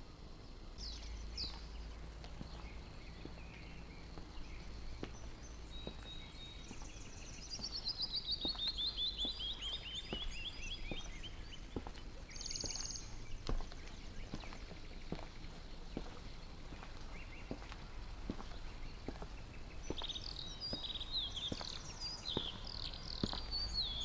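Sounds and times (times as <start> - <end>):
footsteps on stone tiles: 0.8 - 24.0
songbird trilling: 0.8 - 24.0.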